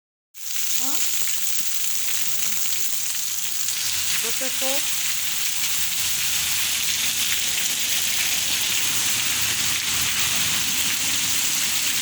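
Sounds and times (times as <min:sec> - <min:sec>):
heavy rain falling: 0:00.4 - 0:12.0.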